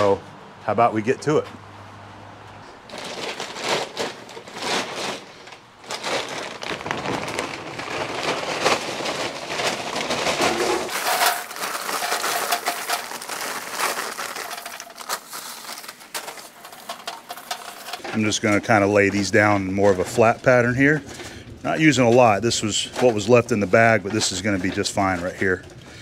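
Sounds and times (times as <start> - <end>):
paper bag rustling: 2.8 - 25.6
charcoal clattering into metal basket: 2.9 - 26.0.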